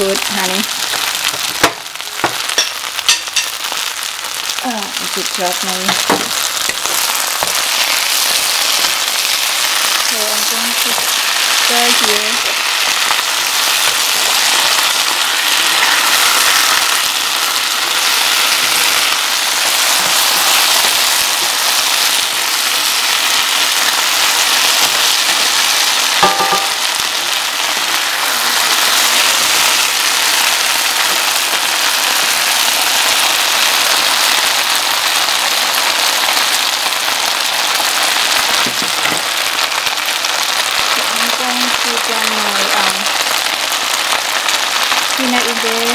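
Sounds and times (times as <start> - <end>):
food sizzling in pan: 0.0 - 45.9.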